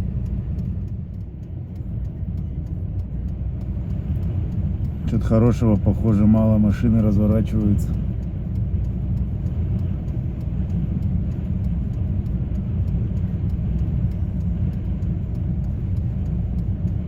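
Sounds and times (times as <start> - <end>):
blizzard wind against car: 0.0 - 17.0
car engine rumble inside cabin: 0.0 - 17.0.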